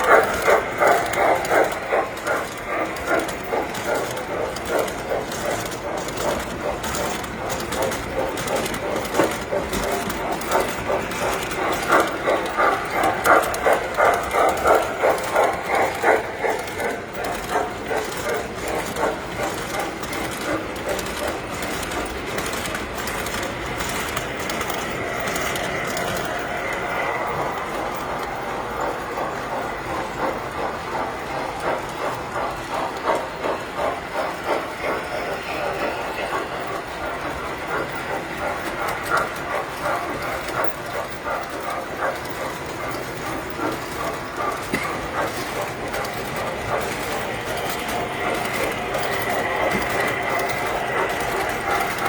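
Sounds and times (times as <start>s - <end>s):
model train wheels clattering: 0.0s - 52.0s.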